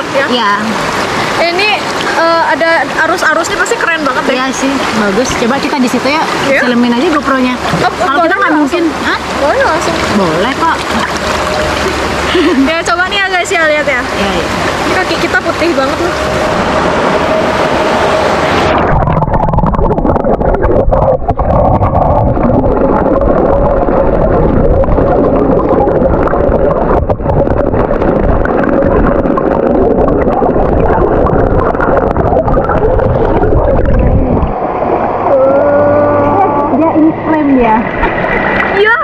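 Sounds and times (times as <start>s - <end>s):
muffled underwater river rushing: 0.0s - 39.0s.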